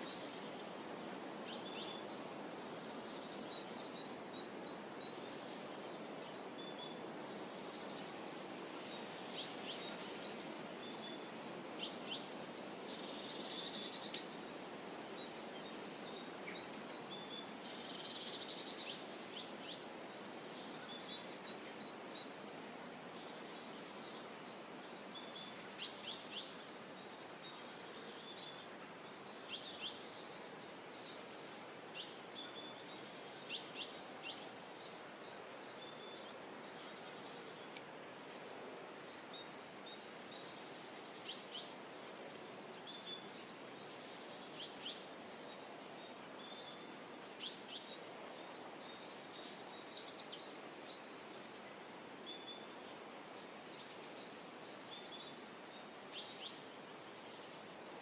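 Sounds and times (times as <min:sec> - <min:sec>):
small birds chirping: 0:00.0 - 0:57.8
soft outdoor hiss: 0:00.0 - 0:58.0.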